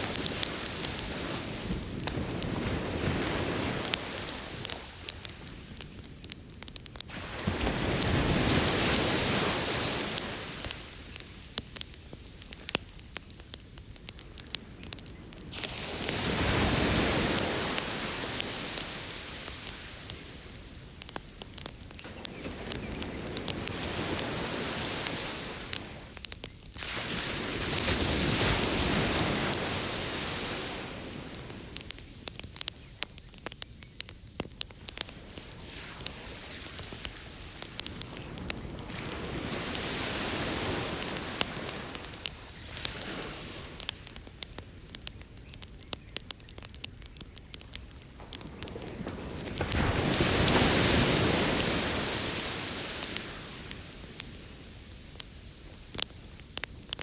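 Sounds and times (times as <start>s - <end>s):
ocean waves washing ashore: 0.0s - 32.6s, 34.8s - 45.2s, 47.7s - 57.0s
campfire crackling and popping: 0.0s - 57.0s.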